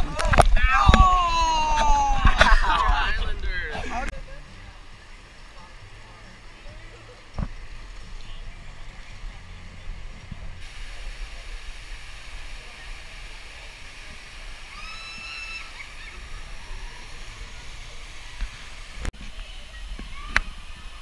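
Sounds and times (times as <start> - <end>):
water rushing and splashing: 0.0 - 21.0.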